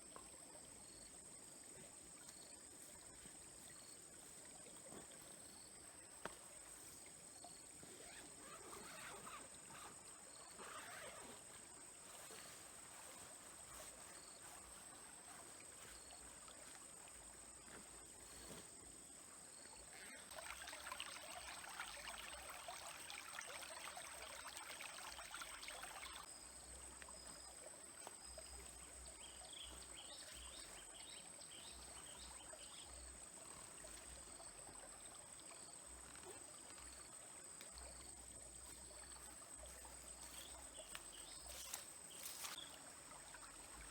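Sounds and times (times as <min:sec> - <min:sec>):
stream trickling: 0:00.0 - 0:43.9.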